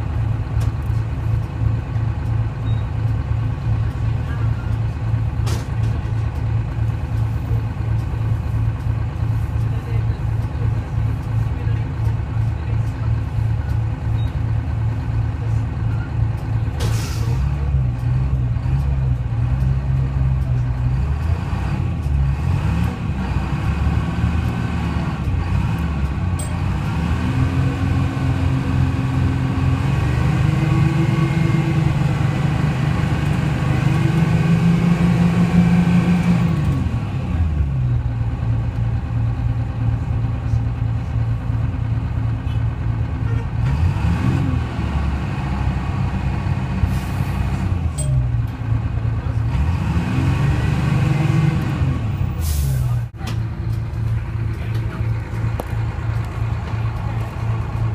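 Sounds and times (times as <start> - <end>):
diesel bus engine revving: 0.0 - 57.9.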